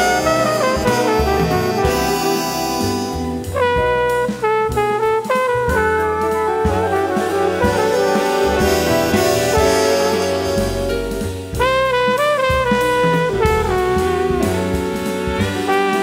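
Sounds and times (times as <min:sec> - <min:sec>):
brass and saxophone chords: 0:00.0 - 0:16.0
double bass: 0:00.0 - 0:16.0
drums: 0:00.0 - 0:16.0.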